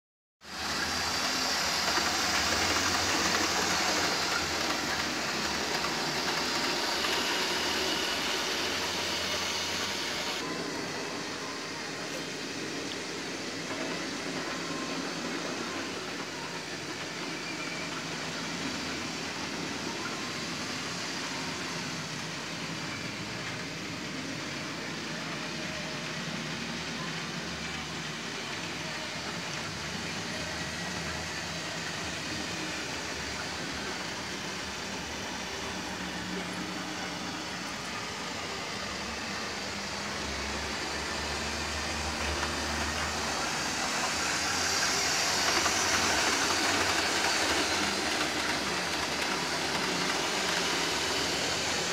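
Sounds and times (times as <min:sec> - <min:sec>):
model train motors whirring: 0:00.5 - 0:51.9.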